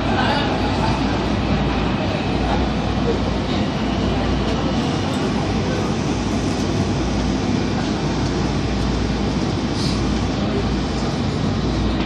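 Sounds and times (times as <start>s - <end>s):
railcar wheels rumbling on rail: 0.0s - 12.0s.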